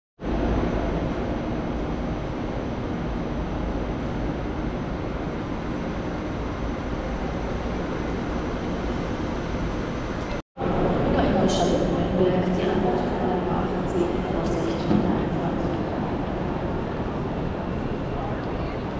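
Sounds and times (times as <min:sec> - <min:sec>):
train station hall rumble: 0:00.2 - 0:18.9.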